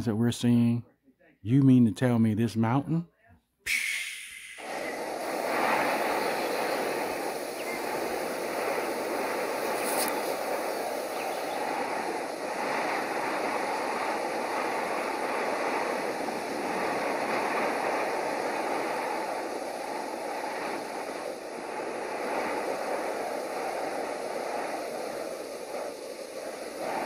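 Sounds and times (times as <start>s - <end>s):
rushing wind: 3.7s - 27.0s.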